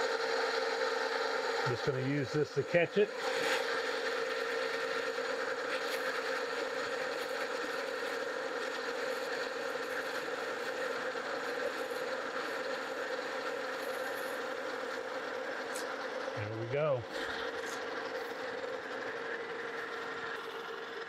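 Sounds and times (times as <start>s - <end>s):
lathe tool cutting metal: 0.0s - 21.0s
metal lathe humming: 0.0s - 21.0s.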